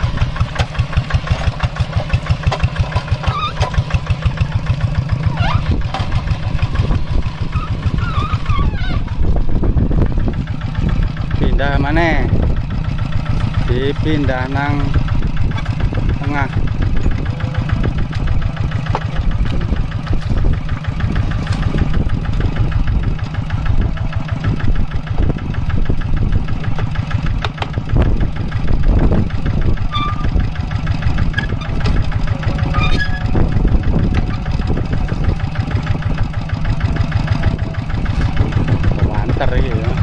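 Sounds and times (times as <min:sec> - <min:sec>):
diesel engine running under load: 0:00.0 - 0:40.0.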